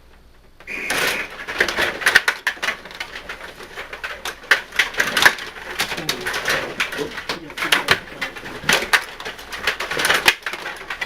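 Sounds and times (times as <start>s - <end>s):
clatter of rod hockey game: 0.6s - 11.0s.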